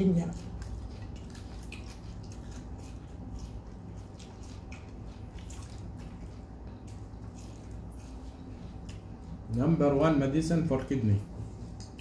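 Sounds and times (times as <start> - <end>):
steady low hum: 0.0 - 12.0
chewing and utensil clicks: 0.2 - 9.7, 11.7 - 12.0.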